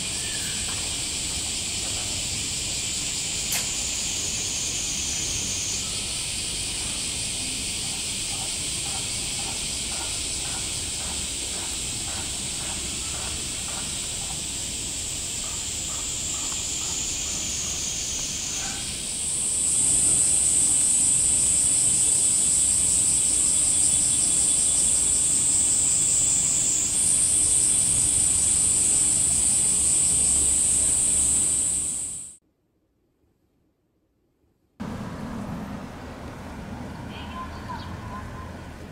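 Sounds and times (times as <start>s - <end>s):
cicadas droning: 0.0s - 32.4s.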